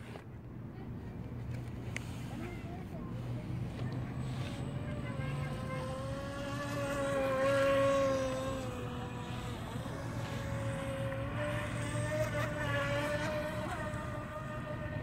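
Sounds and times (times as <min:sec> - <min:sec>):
rc boat motor whining: 0:01.4 - 0:15.0.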